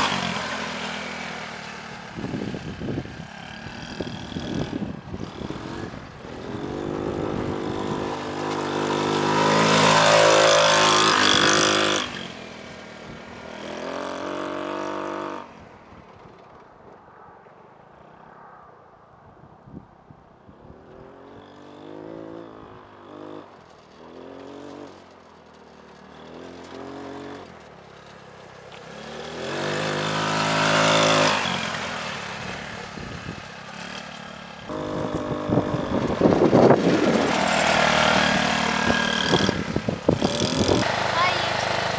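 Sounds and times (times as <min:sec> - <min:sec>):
small engine revving: 0:00.0 - 0:16.6, 0:20.7 - 0:41.9.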